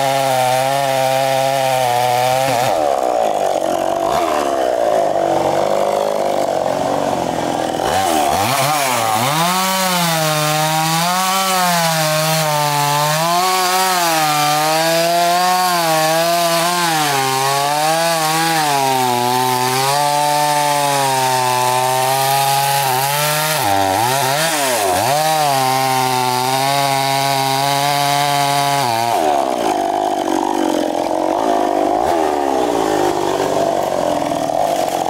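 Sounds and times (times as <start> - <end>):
chainsaw cutting log: 0.0 - 35.0.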